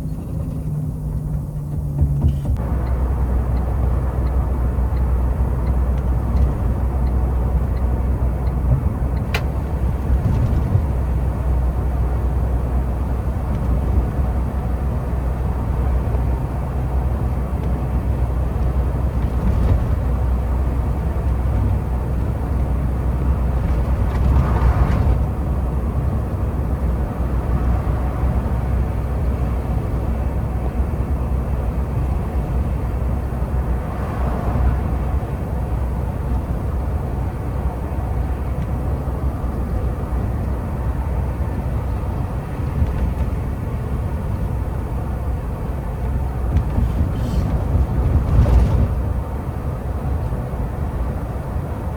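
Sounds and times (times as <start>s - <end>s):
road noise: 0.0s - 51.9s
truck engine rumble: 0.0s - 51.9s.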